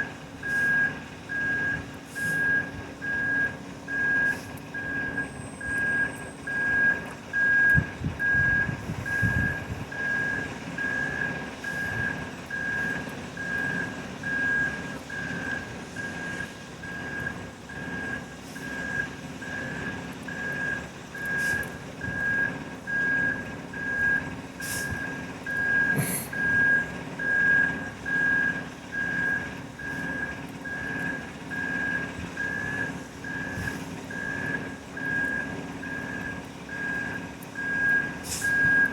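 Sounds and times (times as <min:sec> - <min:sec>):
diesel engine running: 0:00.0 - 0:38.9
reversing alarm beeping: 0:00.4 - 0:38.9.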